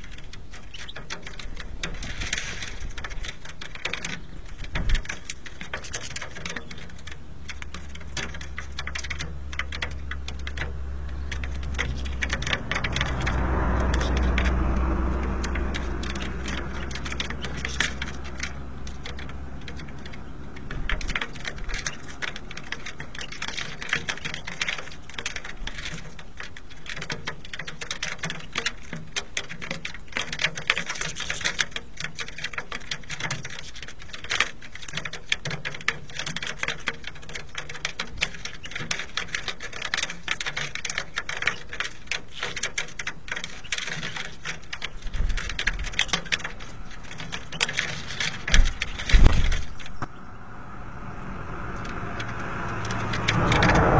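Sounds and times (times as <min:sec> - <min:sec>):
birds cracking seeds with beak taps: 0:00.0 - 0:50.2, 0:51.4 - 0:53.9.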